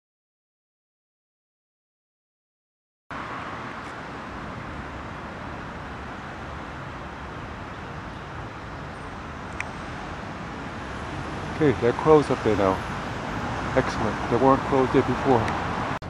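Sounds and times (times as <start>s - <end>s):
distant road traffic: 3.1s - 16.0s.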